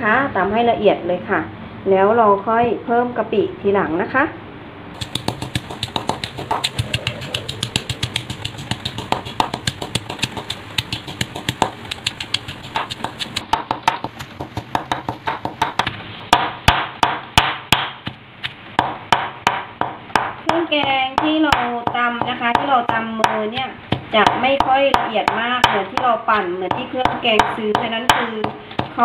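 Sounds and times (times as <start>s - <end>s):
stone pestle pounding in mortar: 5.0s - 18.2s, 18.8s - 29.0s.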